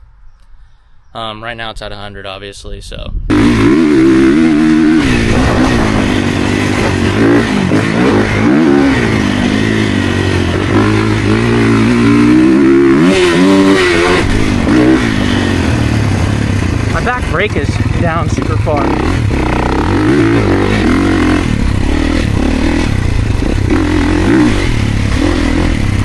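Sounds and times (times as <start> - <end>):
motocross bike engine revving: 3.3 - 26.0.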